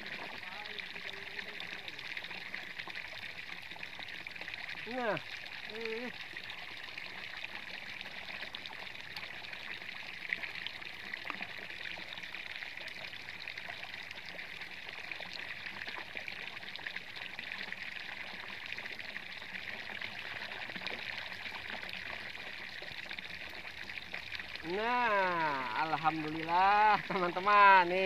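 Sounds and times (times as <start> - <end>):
water pouring and splashing: 0.0 - 28.0.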